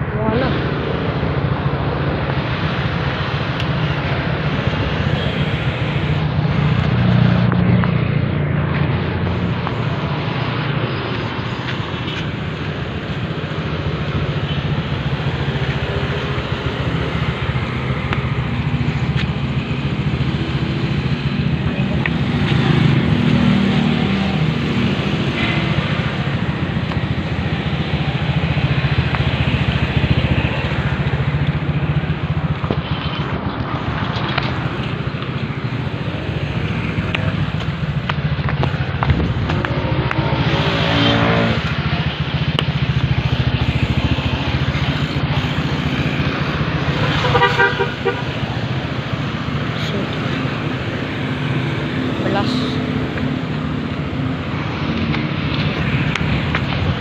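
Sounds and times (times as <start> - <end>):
road noise: 0.0 - 57.0
vehicle engine running: 0.0 - 57.0.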